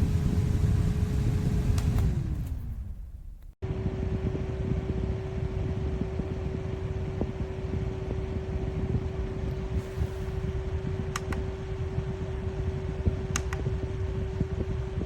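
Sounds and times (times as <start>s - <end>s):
small fan whirring: 0.0s - 15.0s.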